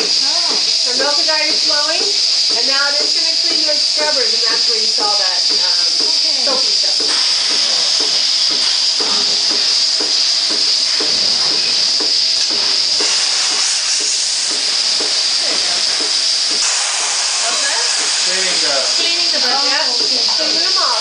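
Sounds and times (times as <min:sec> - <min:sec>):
milking machine air hiss: 0:00.0 - 0:21.0.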